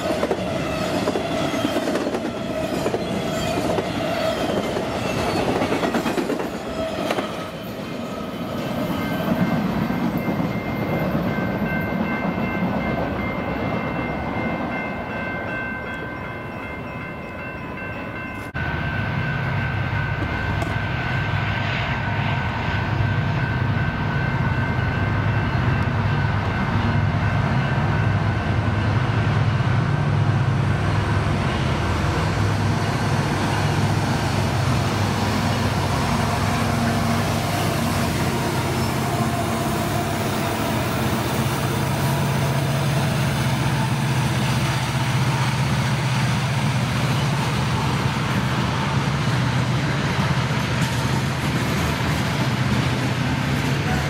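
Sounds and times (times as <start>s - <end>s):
diesel locomotives working hard: 0.0s - 54.0s
freight train rolling past: 0.0s - 54.0s.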